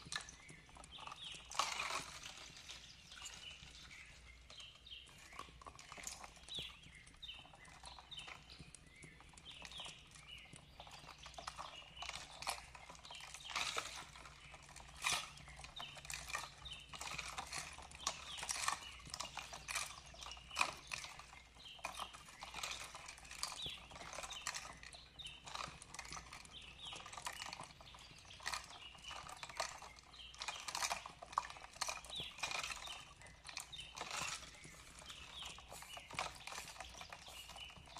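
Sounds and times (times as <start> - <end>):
faint bird chirps: 0.0 - 37.9.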